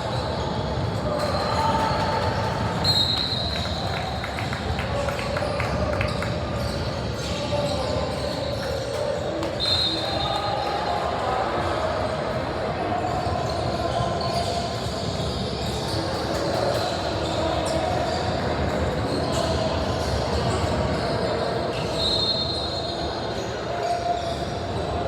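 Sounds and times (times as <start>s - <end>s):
court and crowd noise: 0.0s - 25.0s.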